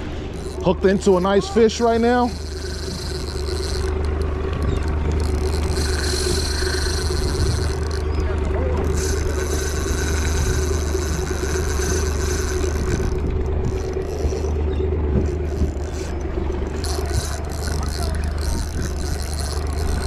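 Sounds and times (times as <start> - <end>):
fishing reel whirring: 0.0 - 20.0
outboard motor running: 0.0 - 20.0
wind and hull noise: 0.0 - 20.0.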